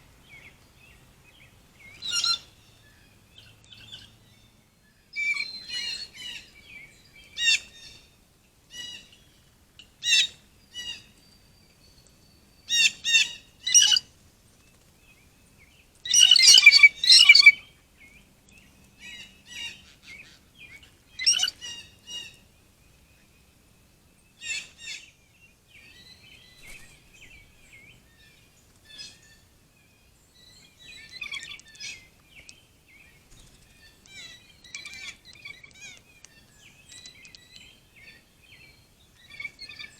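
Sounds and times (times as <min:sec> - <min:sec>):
wild birds chirping: 0:00.0 - 0:08.2, 0:08.8 - 0:39.9.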